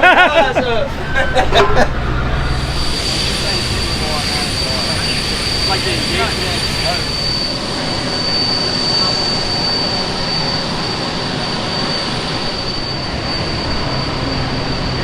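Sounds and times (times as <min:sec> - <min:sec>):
loud mechanical noise: 0:00.0 - 0:15.0
high-pitched whine: 0:00.9 - 0:15.0.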